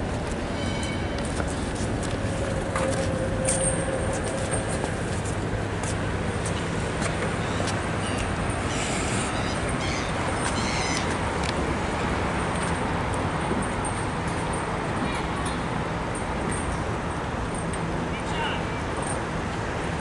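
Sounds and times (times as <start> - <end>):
city traffic: 0.0 - 20.0.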